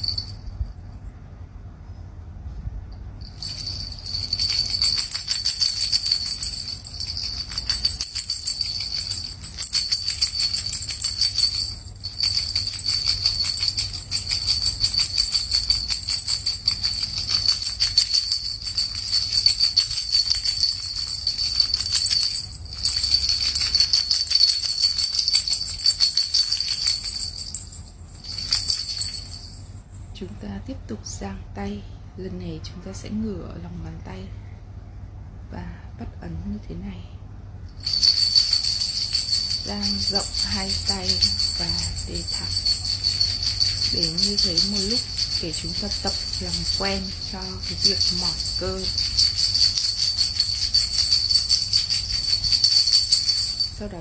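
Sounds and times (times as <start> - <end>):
small bell jingling: 0.0 - 1.1, 3.0 - 30.2, 37.7 - 54.0.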